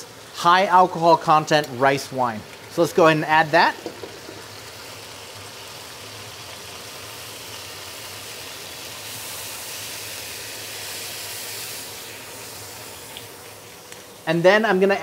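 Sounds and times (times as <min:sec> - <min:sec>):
oil sizzling in a wok: 0:00.0 - 0:14.7.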